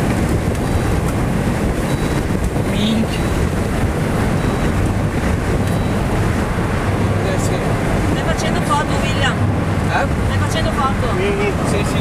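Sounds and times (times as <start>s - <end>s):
car road and engine rumble: 0.0s - 12.0s
wind noise on microphone: 0.0s - 12.0s.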